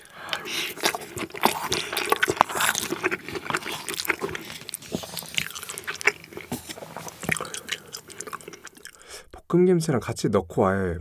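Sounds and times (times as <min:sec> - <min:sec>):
close-miked chewing: 0:00.0 - 0:09.0.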